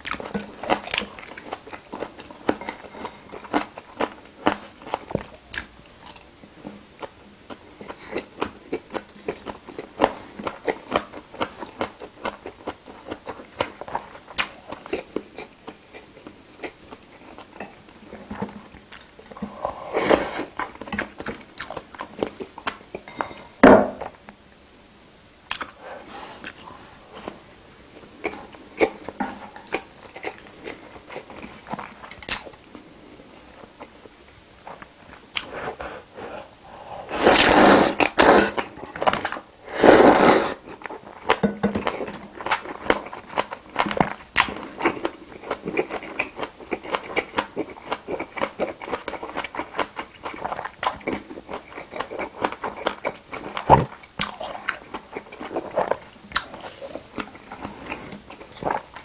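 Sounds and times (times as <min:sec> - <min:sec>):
person chewing food: 0:00.0 - 0:24.2, 0:25.5 - 0:59.0.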